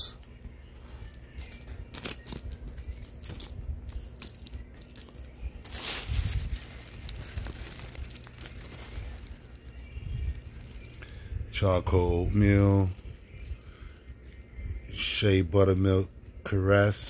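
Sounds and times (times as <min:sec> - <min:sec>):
plastic wrap crinkling: 0:00.6 - 0:16.5.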